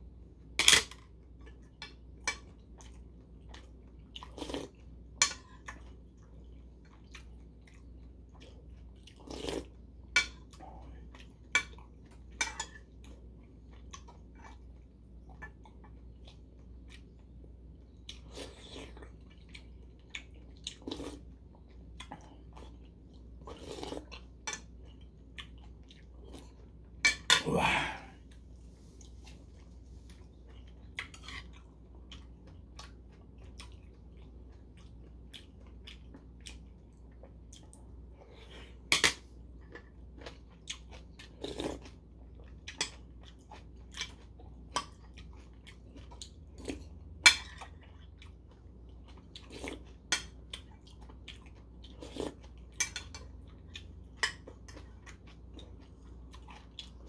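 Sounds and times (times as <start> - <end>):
chewing: 1.3 - 26.8, 27.6 - 57.0.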